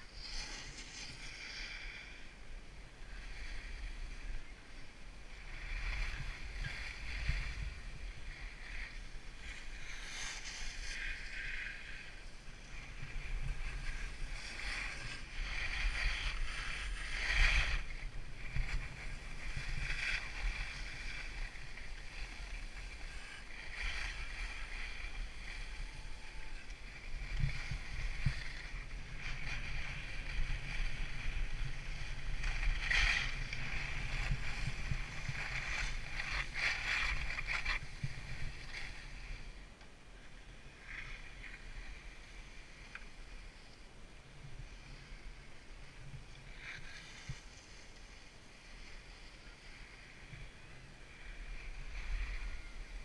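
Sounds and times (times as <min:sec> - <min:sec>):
skis scraping over snow: 0:00.0 - 0:53.0
wind rumble on microphone: 0:00.0 - 0:53.0.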